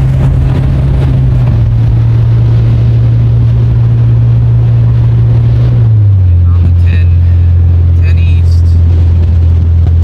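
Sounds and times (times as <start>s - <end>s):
road noise inside cab: 0.0s - 10.0s
vehicle engine drone: 0.0s - 10.0s.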